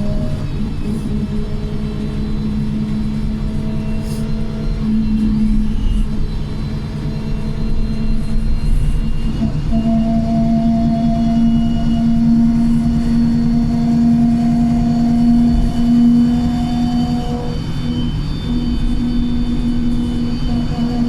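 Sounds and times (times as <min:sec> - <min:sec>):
bus engine rumble: 0:00.0 - 0:21.0
differential whine: 0:00.0 - 0:21.0
gearbox whine: 0:00.0 - 0:21.0.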